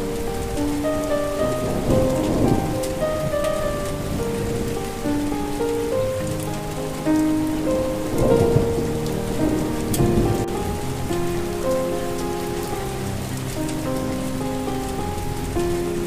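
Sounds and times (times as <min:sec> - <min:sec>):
slow melody of held notes: 0:00.0 - 0:16.0
steady rain: 0:00.0 - 0:16.0.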